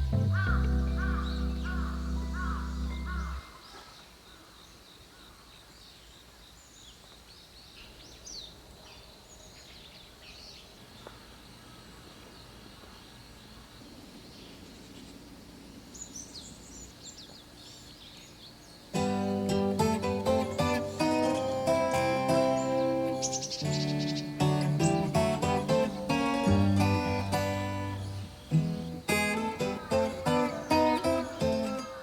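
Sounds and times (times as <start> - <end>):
background hiss: 0.0 - 32.0
small birds chirping: 0.0 - 32.0.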